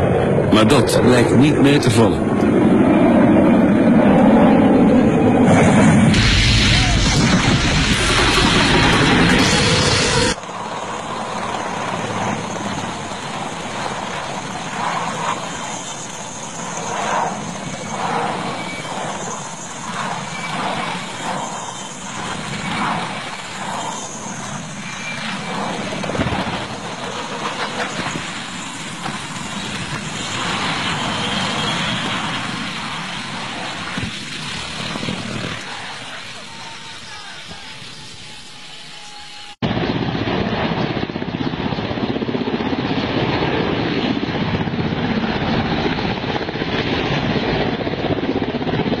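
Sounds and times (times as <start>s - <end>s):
helicopter rotor and engines: 0.0s - 49.0s.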